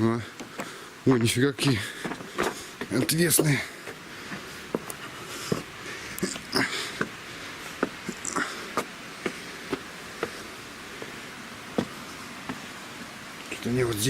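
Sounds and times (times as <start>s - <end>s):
footsteps on loose rocks: 0.0s - 12.8s.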